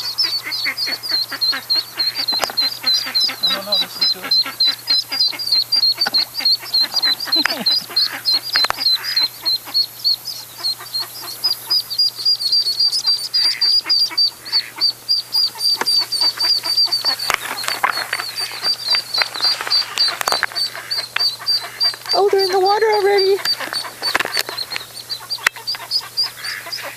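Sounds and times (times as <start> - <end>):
ducklings peeping: 0.0 - 26.9.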